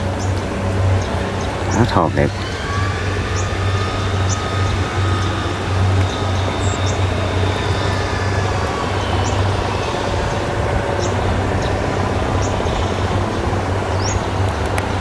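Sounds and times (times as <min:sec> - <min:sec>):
combine harvesters droning: 0:00.0 - 0:15.0.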